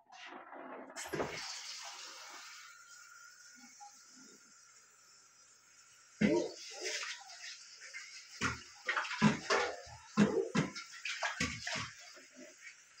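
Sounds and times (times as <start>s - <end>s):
water running from tap: 1.0s - 13.0s.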